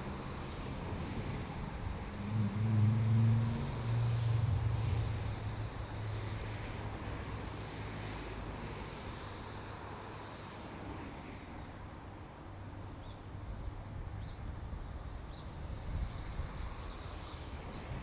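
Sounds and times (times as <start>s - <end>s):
diesel locomotive engine growling: 0.0s - 16.0s.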